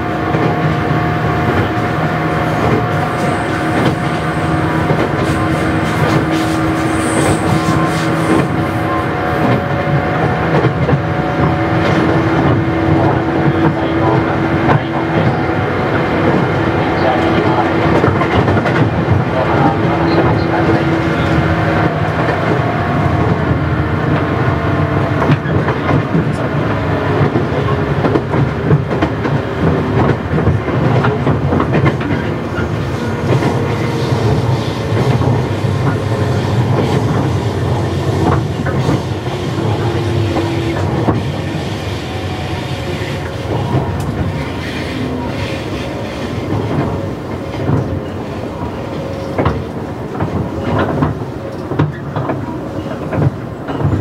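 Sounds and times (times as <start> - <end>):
train wheels and motors rumbling: 0.0 - 54.0
rail-joint clicks: 0.2 - 54.0.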